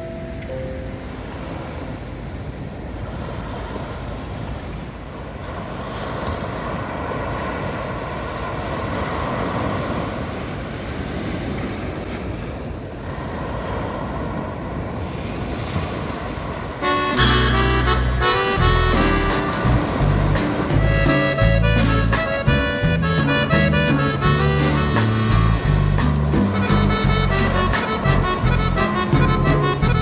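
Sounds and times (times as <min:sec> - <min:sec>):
sea surf washing onto beach: 0:00.0 - 0:30.0.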